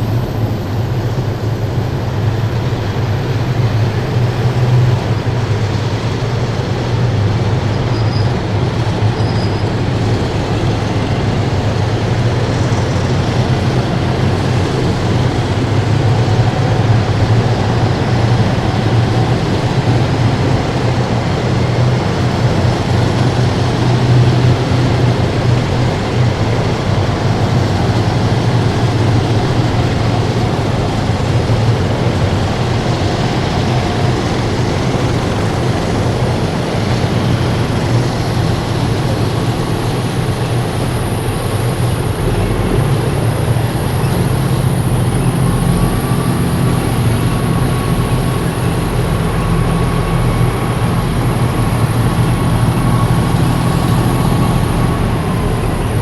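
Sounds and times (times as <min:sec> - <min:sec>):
faint whine: 0:00.0 - 0:56.0
heavy vehicles driving past: 0:00.0 - 0:56.0.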